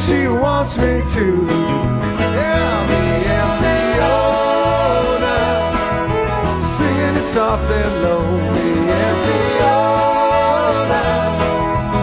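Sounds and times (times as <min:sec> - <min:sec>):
bass guitar: 0:00.0 - 0:12.0
electric guitar: 0:00.0 - 0:12.0
gliding lead melody with bent notes: 0:00.0 - 0:12.0
drum kit steady beat: 0:01.2 - 0:12.0.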